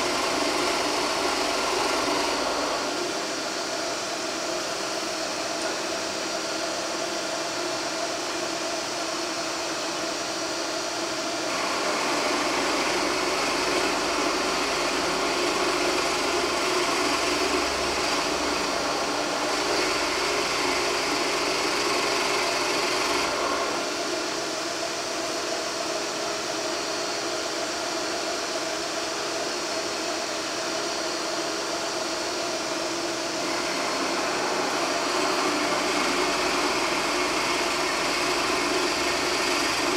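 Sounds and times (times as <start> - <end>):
drill press boring wood: 0.0 - 39.9.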